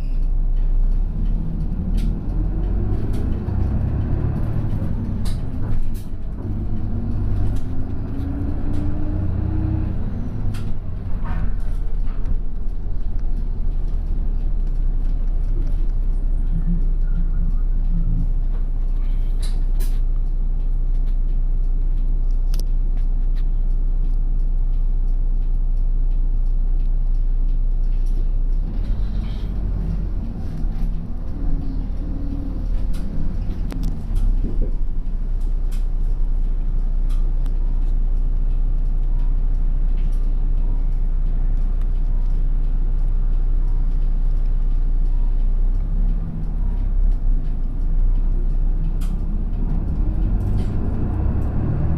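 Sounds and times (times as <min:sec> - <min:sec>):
bus diesel engine droning: 0:00.0 - 0:51.9
rattles and clicks: 0:00.0 - 0:51.9.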